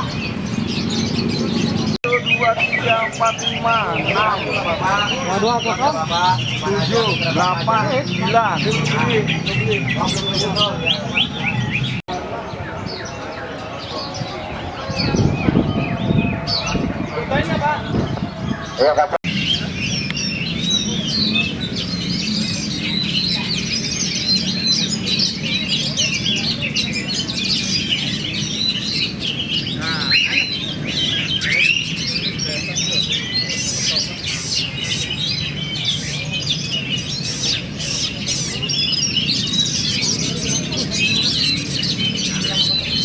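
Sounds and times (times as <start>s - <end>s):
murmur of crowd voices: 0.0s - 43.0s
songbirds singing: 0.0s - 43.0s.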